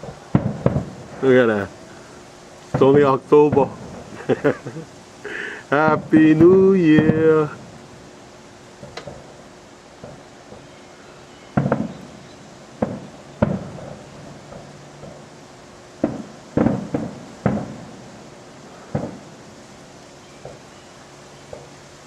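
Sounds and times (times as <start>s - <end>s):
fireworks exploding: 0.0s - 22.0s.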